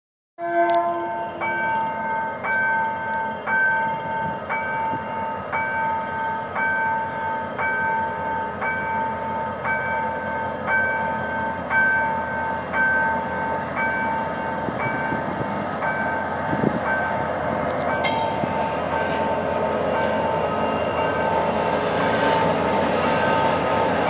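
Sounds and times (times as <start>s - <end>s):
diesel locomotive running: 0.4s - 24.0s.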